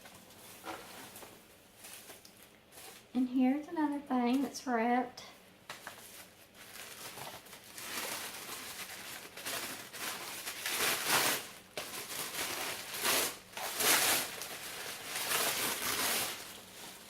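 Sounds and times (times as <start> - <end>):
wrapping rustling and crinkling: 0.0 - 3.2, 5.6 - 17.0.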